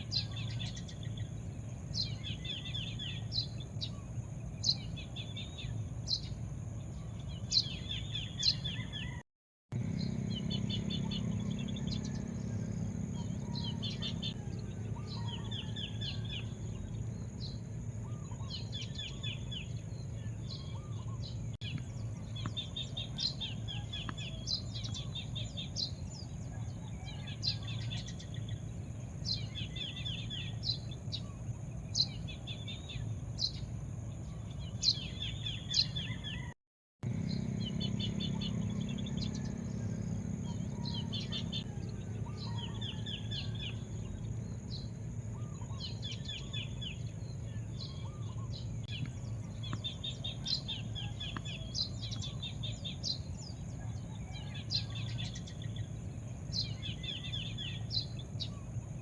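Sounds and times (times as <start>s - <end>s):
small birds chirping: 0.0s - 9.2s, 9.8s - 59.0s
low background rumble: 9.8s - 36.3s, 37.0s - 59.0s.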